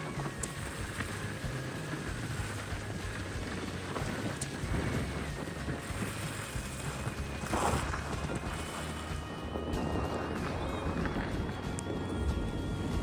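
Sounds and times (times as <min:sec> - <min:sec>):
vehicle rumbling on road: 0:00.0 - 0:13.0
wind noise on microphone: 0:00.0 - 0:13.0.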